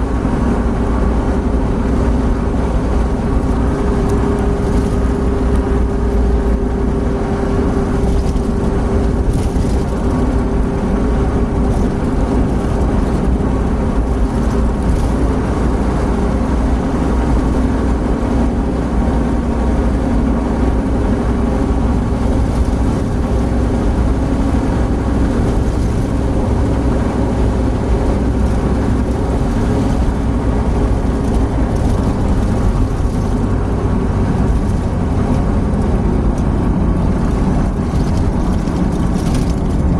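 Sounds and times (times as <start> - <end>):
car engine drone: 0.0 - 39.9
wind noise: 0.0 - 39.9.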